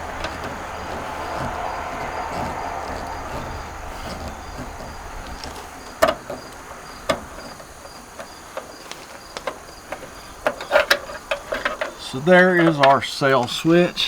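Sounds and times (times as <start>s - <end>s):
crickets chirping: 0.0s - 14.0s
road traffic noise: 0.0s - 14.0s
sharp metallic clicks: 0.0s - 14.0s.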